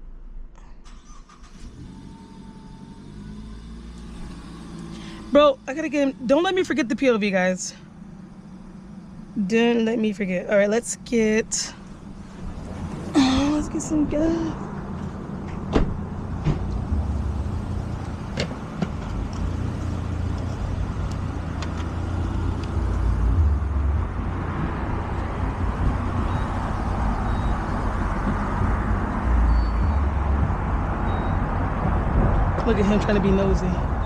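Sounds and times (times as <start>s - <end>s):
low vehicle rumble: 0.0s - 34.0s.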